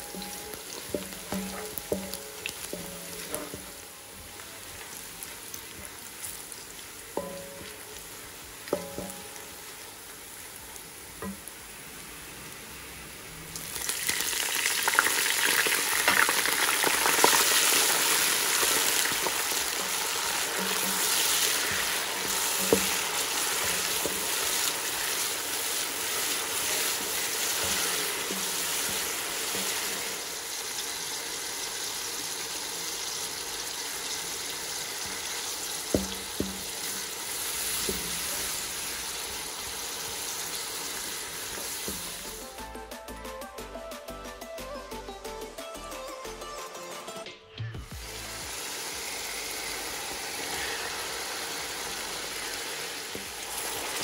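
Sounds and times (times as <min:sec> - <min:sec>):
onions sizzling in hot oil: 0:00.0 - 0:42.5, 0:47.9 - 0:54.0.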